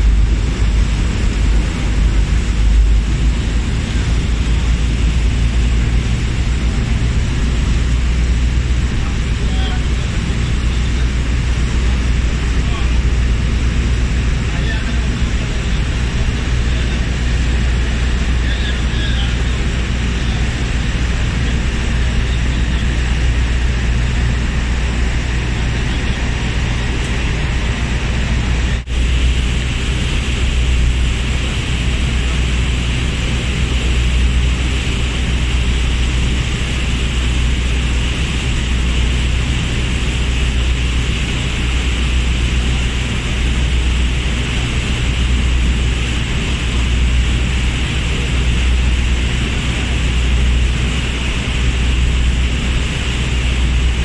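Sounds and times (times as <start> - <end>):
boat engine droning: 0.0 - 54.0
rushing boat wake: 0.0 - 54.0.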